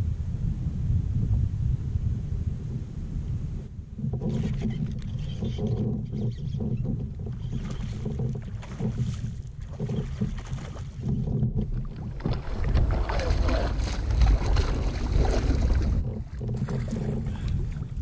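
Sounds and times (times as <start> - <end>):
wind buffeting microphone: 0.0 - 18.0
water sounds around kayak: 0.3 - 18.0.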